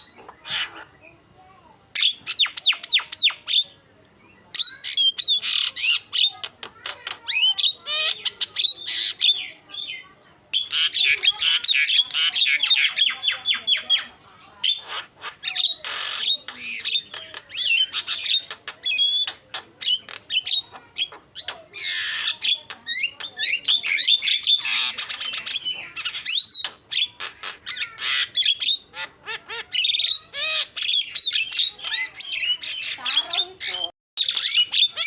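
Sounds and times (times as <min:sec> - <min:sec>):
bird chattering: 0:00.0 - 0:35.0.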